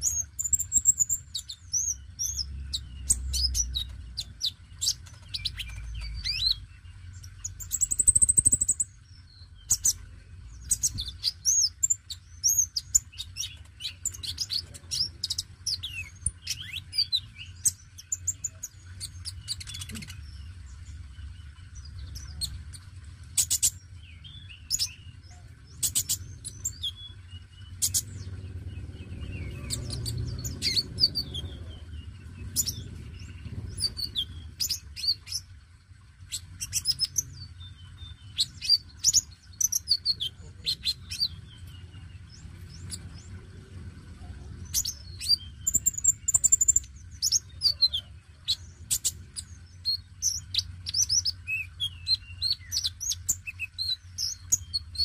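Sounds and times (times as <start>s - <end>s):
steady low hum: 0.0s - 55.0s
sunbird chirping: 0.0s - 55.0s.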